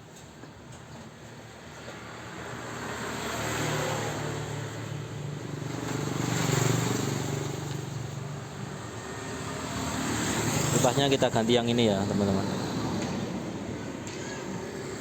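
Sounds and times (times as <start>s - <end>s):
vehicles passing by: 0.2s - 15.0s.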